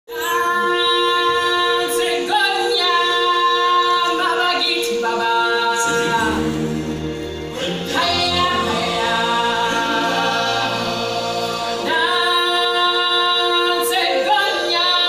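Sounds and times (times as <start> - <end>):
low musical accompaniment: 0.4 - 15.0.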